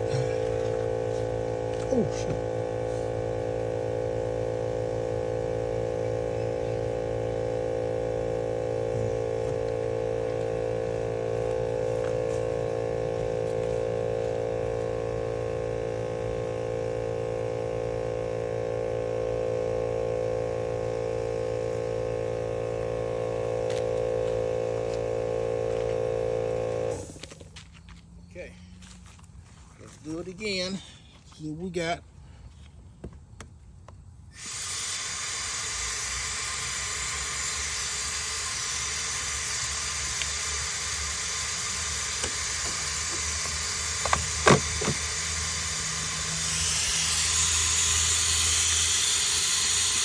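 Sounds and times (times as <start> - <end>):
air pump humming: 0.0 - 27.5, 34.3 - 50.0.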